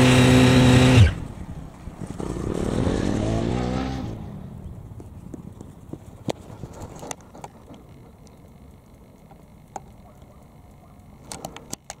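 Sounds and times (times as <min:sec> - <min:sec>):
low rumbling background noise: 0:01.1 - 0:12.0.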